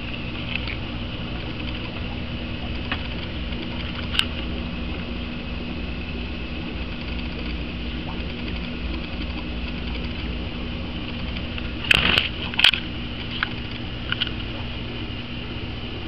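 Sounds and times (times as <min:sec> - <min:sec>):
air pump humming: 0:00.0 - 0:16.0.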